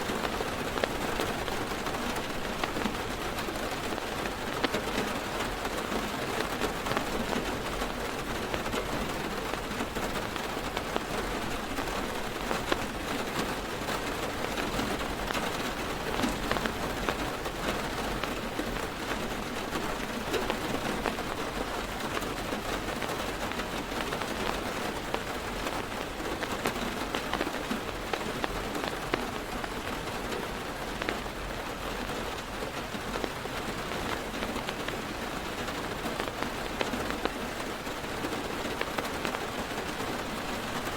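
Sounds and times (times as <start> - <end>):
heavy rain on car roof: 0.0 - 40.9.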